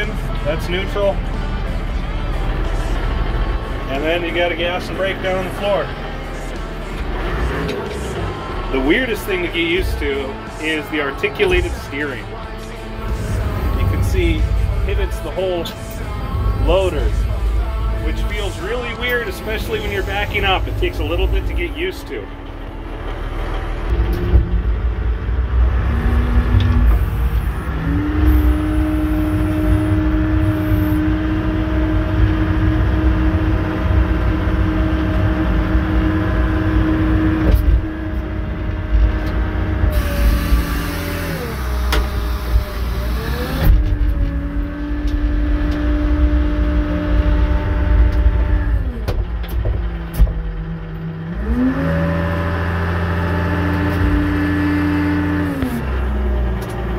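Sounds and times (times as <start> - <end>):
diesel engine rumbling: 0.0 - 56.9.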